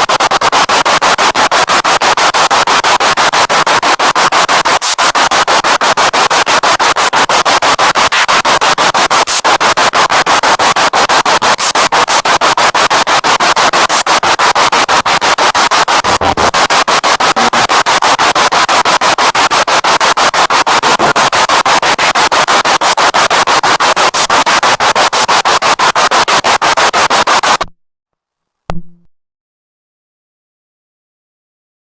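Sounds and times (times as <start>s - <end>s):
radio static chopped rapidly: 0.0s - 27.7s.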